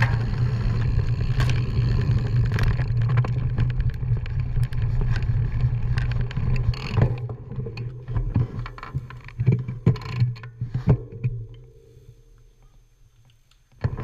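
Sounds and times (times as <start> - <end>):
bike rolling over rough trail: 0.0 - 11.4
bike rattles and knocks: 0.0 - 11.6, 13.8 - 14.0.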